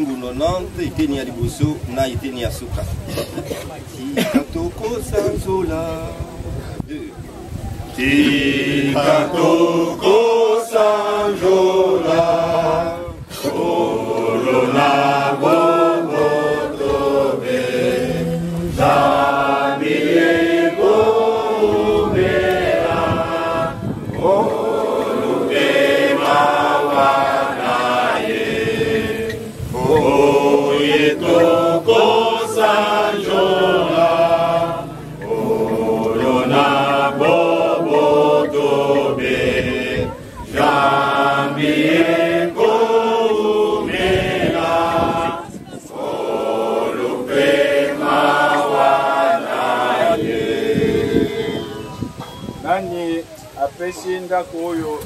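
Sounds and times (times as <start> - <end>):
congregation singing a hymn: 4.2 - 6.6, 7.9 - 53.2.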